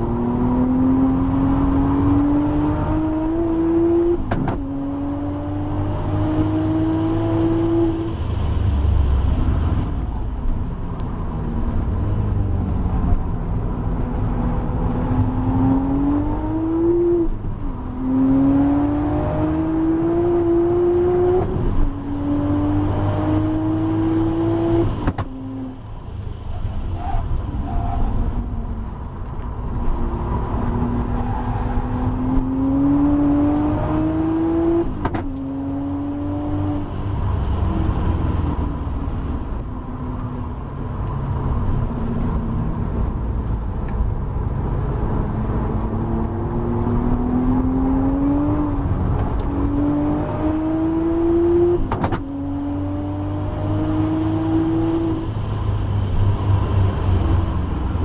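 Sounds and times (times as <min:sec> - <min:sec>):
car engine accelerating hard: 0:00.0 - 0:25.9, 0:26.6 - 0:58.0.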